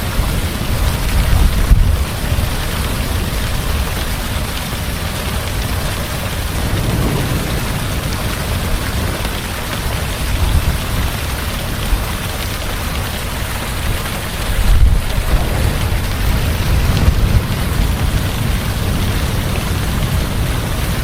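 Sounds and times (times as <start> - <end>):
heavy rain falling: 0.0 - 21.0
thunder rumbling: 0.5 - 21.0.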